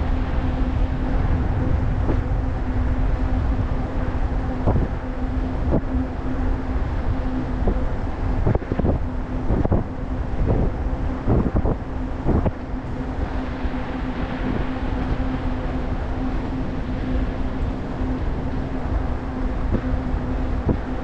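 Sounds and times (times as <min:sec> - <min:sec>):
steady hum: 0:00.0 - 0:21.0
wind buffeting microphone: 0:00.0 - 0:21.0.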